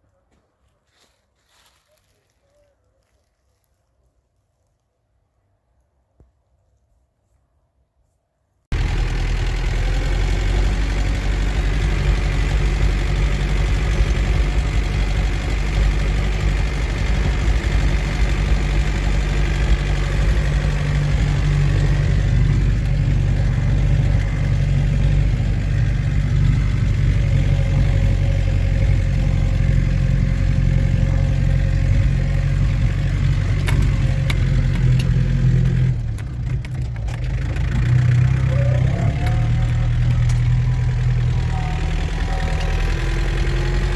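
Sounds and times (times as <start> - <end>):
tractor diesel engine running: 8.7 - 43.9.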